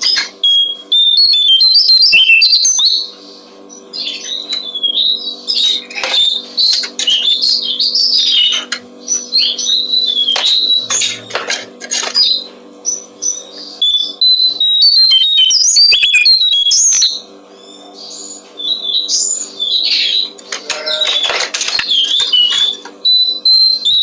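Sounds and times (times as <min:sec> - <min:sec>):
songbird singing: 0:00.0 - 0:11.4, 0:12.2 - 0:21.2, 0:21.9 - 0:24.0
steady low hum: 0:00.0 - 0:24.0.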